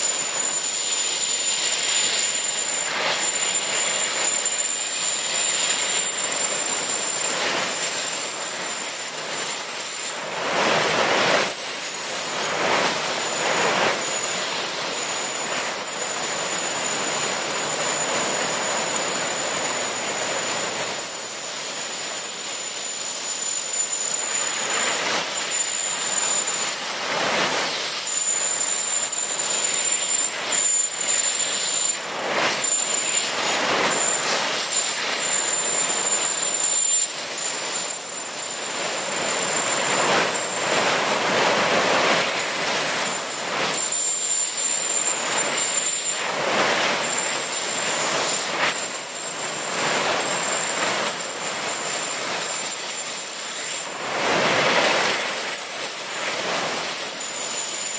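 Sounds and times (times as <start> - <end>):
floodwater rushing over dam spillway: 0.0 - 57.9
high hiss: 0.0 - 57.9.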